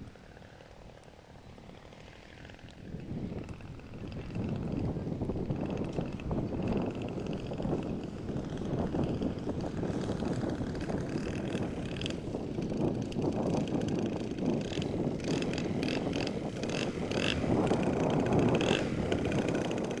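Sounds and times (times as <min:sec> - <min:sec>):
model plane engine running: 0:00.0 - 0:20.0
wind buffeting microphone: 0:00.0 - 0:20.0.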